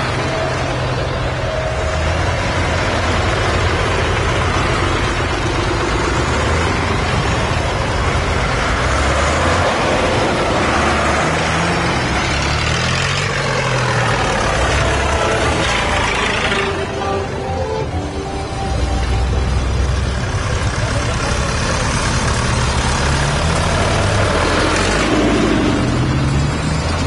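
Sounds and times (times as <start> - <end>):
tractor engines humming: 0.0 - 27.0.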